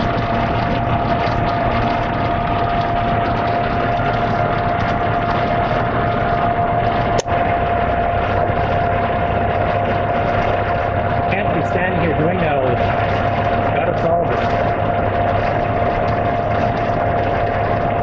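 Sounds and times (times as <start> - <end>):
car engine running: 0.0 - 18.0
cooling fan whine: 0.0 - 18.0.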